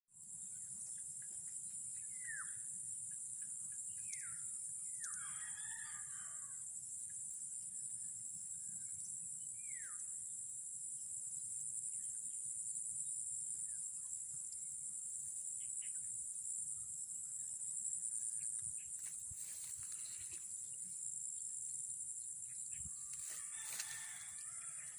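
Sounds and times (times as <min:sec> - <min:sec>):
insects droning: 0:00.2 - 0:24.9.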